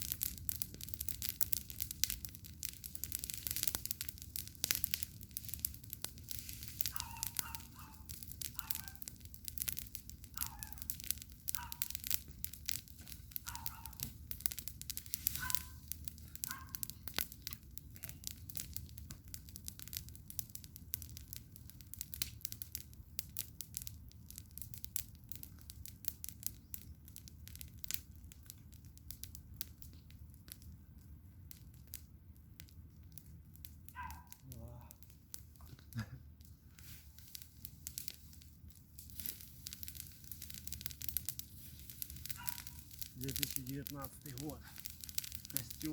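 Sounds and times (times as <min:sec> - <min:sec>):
bonfire crackling and popping: 0:00.0 - 0:45.9
low steady rumble: 0:00.0 - 0:45.9.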